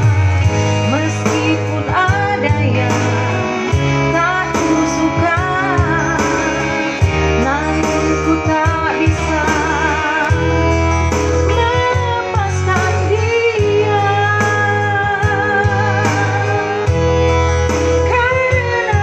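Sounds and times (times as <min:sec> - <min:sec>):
instrumental accompaniment: 0:00.0 - 0:19.0
steady bass notes: 0:00.0 - 0:19.0
woman singing a ballad: 0:00.1 - 0:19.0.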